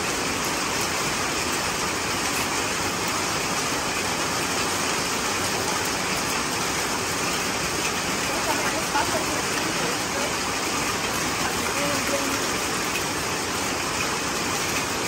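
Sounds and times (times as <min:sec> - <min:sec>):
rain falling on wet ground: 0:00.0 - 0:15.0
water splashing onto concrete: 0:00.0 - 0:15.0.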